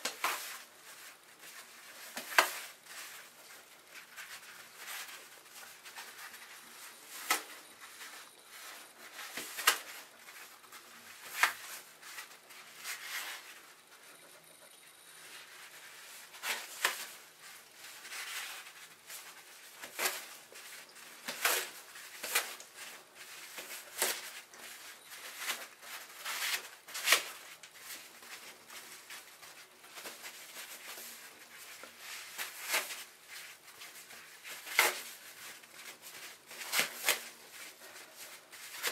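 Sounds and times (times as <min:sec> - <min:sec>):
toilet paper crinkling underfoot: 0:00.0 - 0:14.4, 0:15.1 - 0:38.9.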